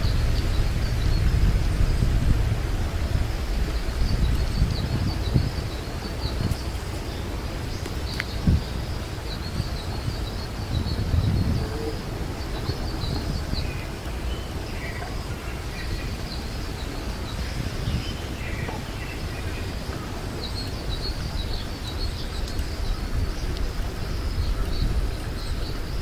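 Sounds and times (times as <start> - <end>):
small birds chirping: 0.0 - 26.0
wind noise on microphone: 0.0 - 26.0.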